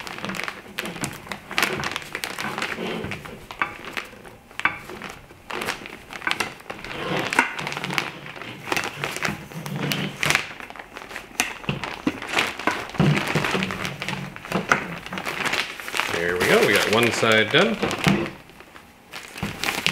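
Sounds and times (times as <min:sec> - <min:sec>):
reflector fabric crinkling: 0:00.0 - 0:19.9.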